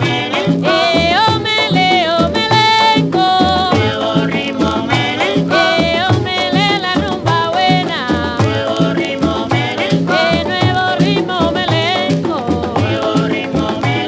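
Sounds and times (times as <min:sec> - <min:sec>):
instrumental salsa music: 0:00.0 - 0:14.0.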